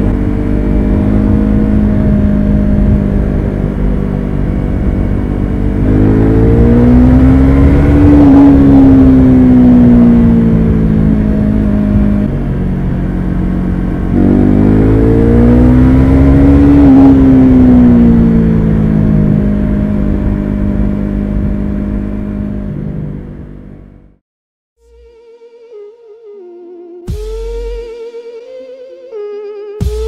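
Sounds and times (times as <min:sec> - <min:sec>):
motorcycle engine revving: 0:00.0 - 0:24.2, 0:29.8 - 0:30.0.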